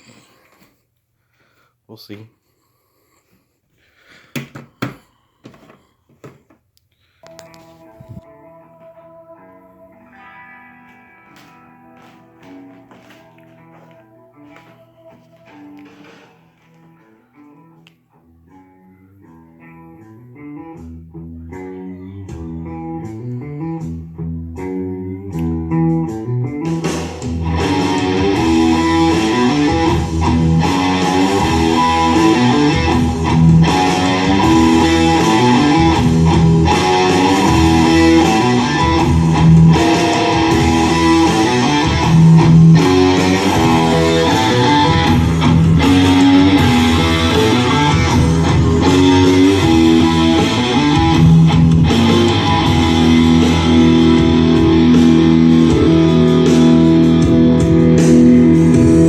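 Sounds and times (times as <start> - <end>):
loud guitar rock music on speakers: 7.3 - 59.0.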